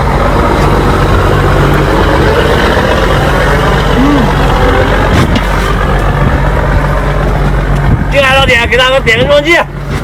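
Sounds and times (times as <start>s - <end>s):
dense rumbling noise: 0.0s - 10.0s.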